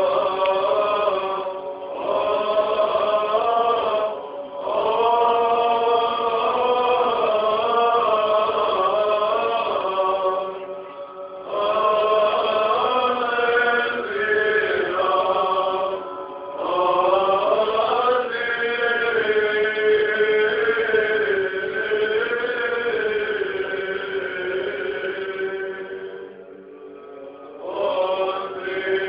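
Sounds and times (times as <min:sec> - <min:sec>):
male voices chanting: 0:00.0 - 0:10.7, 0:11.4 - 0:26.1, 0:27.6 - 0:29.0.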